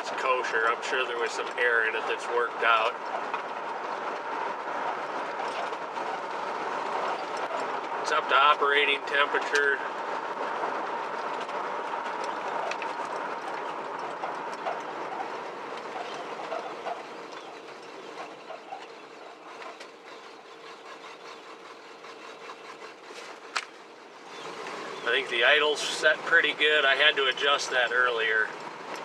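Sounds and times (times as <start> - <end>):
car engine running: 0.0 - 29.0
road noise: 0.0 - 29.0.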